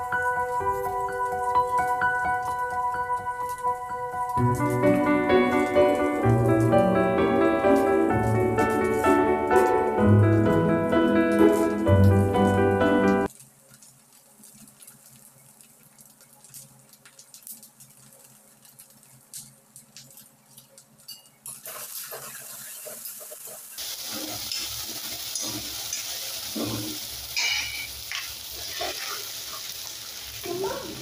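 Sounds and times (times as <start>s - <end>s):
okra sizzling in a pan: 0.0s - 10.3s, 11.4s - 31.0s.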